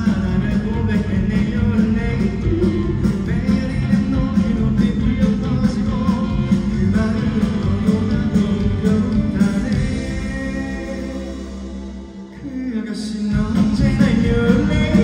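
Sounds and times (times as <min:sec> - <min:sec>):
live band with guitar: 0:00.0 - 0:15.0
person singing: 0:00.0 - 0:15.0.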